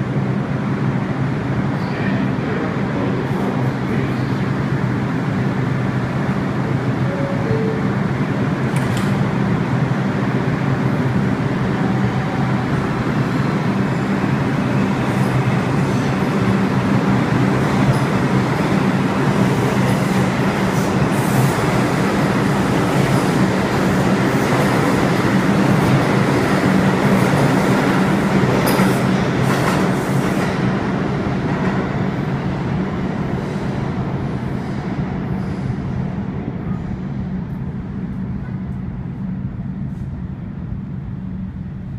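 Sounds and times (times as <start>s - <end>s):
subway train rumbling past: 0.0s - 41.9s.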